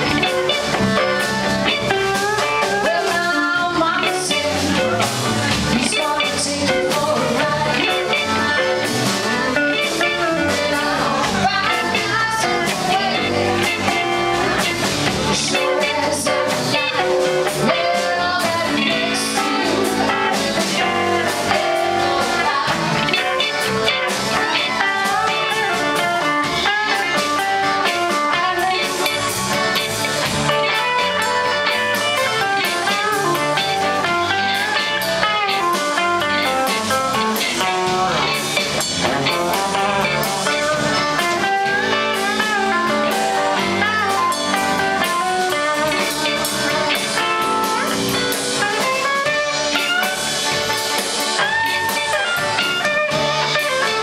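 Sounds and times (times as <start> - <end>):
bass guitar: 0.0 - 54.0
drum kit: 0.0 - 54.0
electric guitar lead: 0.0 - 54.0.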